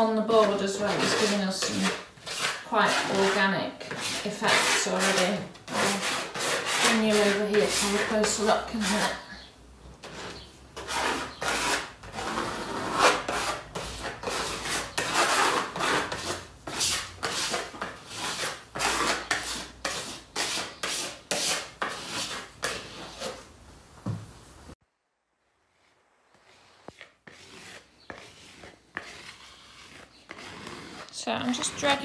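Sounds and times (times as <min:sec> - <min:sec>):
paint spreader scraping board: 0:00.0 - 0:23.5, 0:25.7 - 0:32.0.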